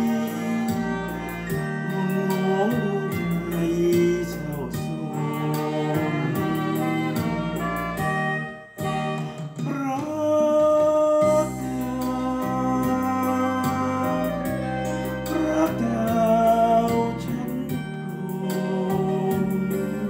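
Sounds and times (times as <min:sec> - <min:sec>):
instrumental backing music: 0:00.0 - 0:20.0
person singing: 0:00.0 - 0:20.0.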